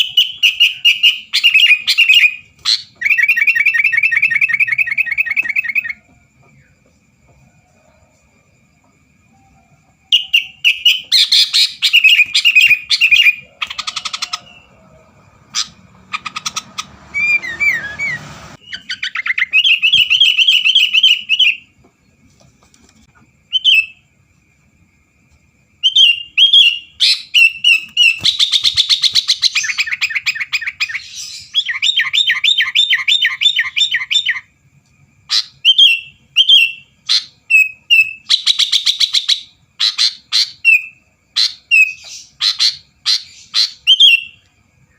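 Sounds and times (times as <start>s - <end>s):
bulbul singing: 0.0s - 6.8s, 9.3s - 21.7s, 25.8s - 34.6s, 35.3s - 44.9s.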